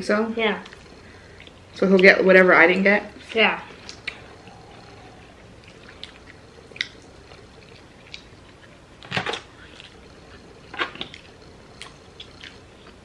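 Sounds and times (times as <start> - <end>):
chewing: 0.5 - 2.2, 3.1 - 13.0.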